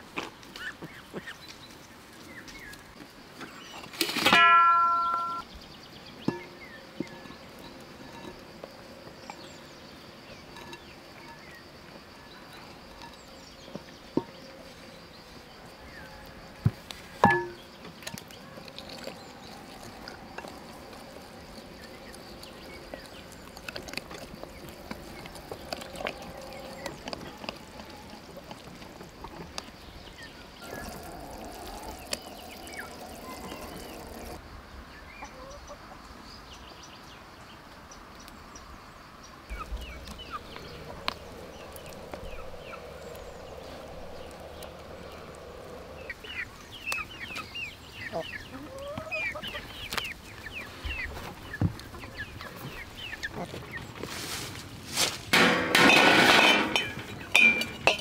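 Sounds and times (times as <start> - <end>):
birds chirping: 0.3 - 34.4, 35.0 - 54.1.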